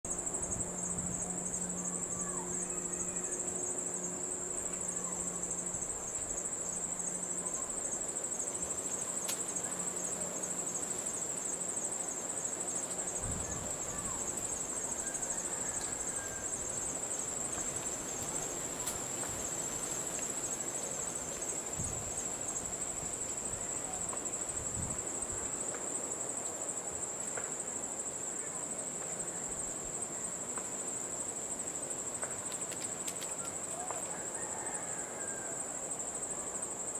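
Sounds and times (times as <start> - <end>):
insects trilling: 0.1 - 36.9.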